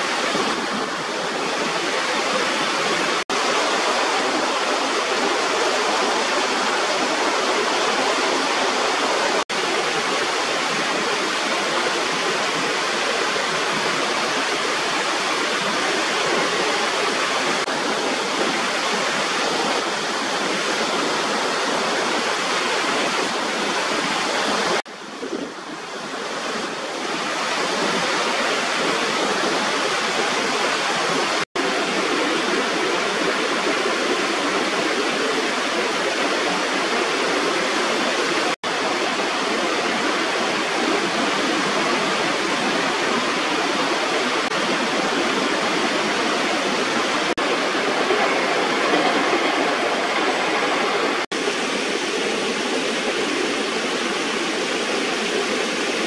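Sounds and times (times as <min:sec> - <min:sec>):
waterfall over weir: 0:00.0 - 0:56.0.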